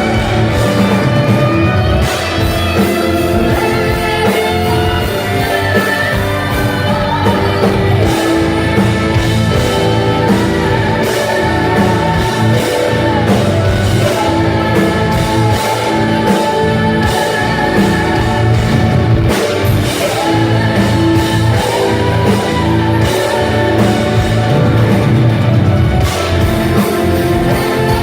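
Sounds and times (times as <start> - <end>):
metal band playing: 0.0 - 28.0.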